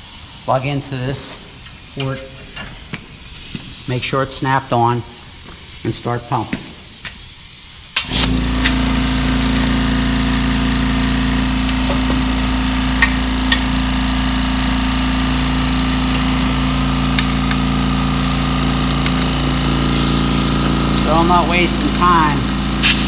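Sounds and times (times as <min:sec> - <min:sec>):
air compressor running: 0:00.0 - 0:23.0.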